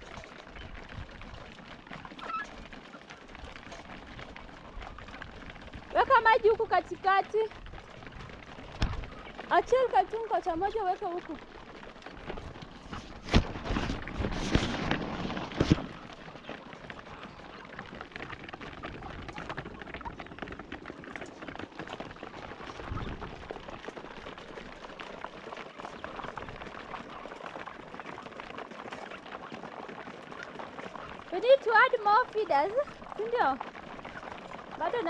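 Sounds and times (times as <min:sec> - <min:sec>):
chickens pecking feed: 0:00.0 - 0:35.0.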